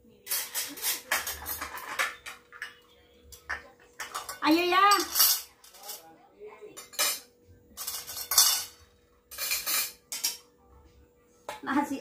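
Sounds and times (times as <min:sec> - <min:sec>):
dishes clattering and scraping: 0:00.2 - 0:06.1, 0:06.7 - 0:10.6.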